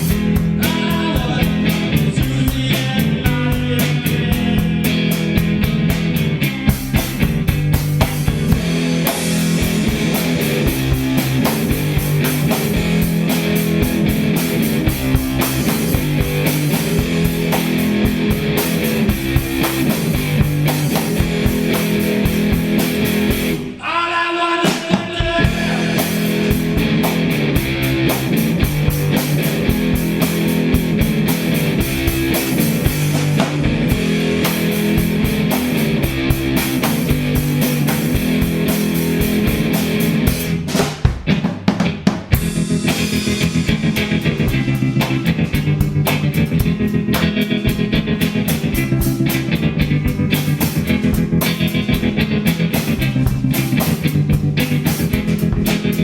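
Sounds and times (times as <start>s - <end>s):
busy drumming: 0.0s - 23.8s, 24.6s - 56.0s
rock band playing: 0.0s - 56.0s.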